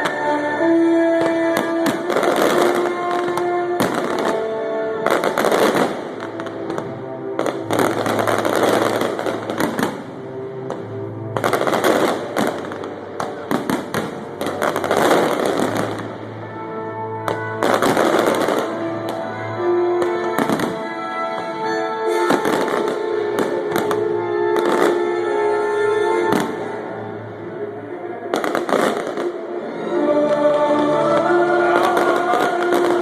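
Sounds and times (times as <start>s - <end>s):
fireworks bangs and crackles: 0.0s - 16.5s, 17.2s - 25.4s, 26.2s - 26.9s, 28.3s - 29.6s, 30.3s - 33.0s
music playing: 0.0s - 33.0s.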